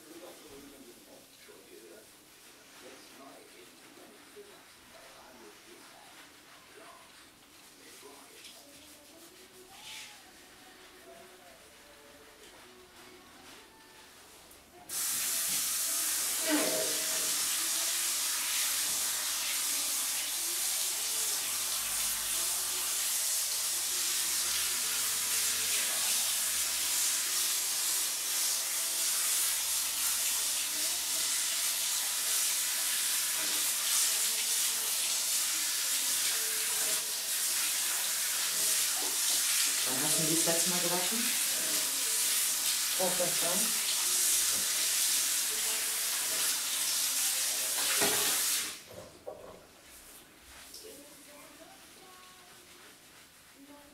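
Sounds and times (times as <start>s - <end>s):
hand shower water spraying: 1.9s - 48.9s, 49.8s - 53.9s.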